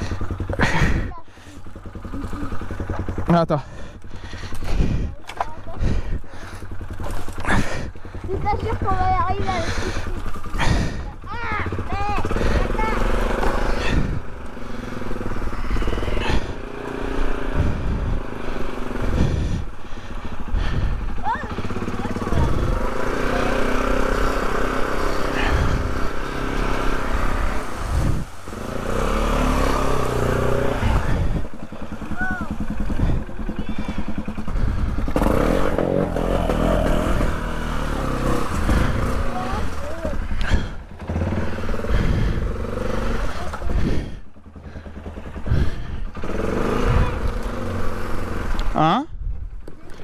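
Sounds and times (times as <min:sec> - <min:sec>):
off-road vehicle engine revving: 0:00.0 - 0:50.0.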